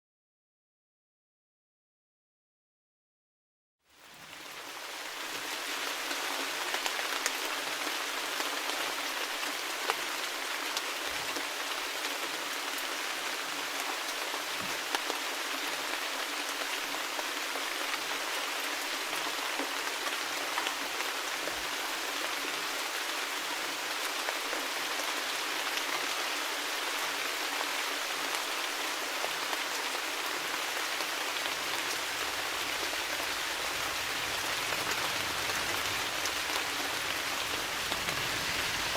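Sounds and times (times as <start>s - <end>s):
steady rain falling: 3.9s - 38.9s.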